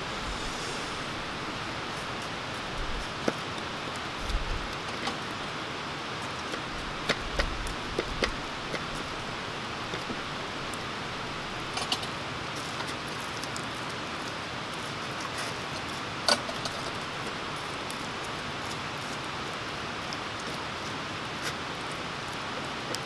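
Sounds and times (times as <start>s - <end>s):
fire crackles and pops: 0.0s - 23.0s
wood fire hissing: 0.0s - 23.0s.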